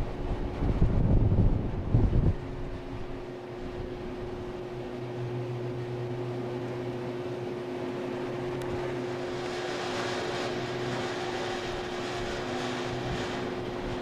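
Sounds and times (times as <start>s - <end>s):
cable car cabin hum: 0.0s - 14.0s.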